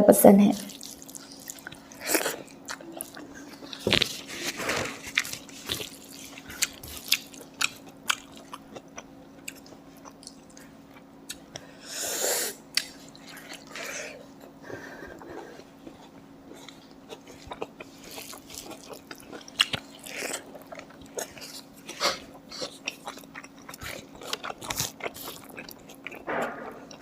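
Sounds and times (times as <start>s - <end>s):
faint steady hum: 0.0s - 27.0s
person chewing food: 0.7s - 27.0s.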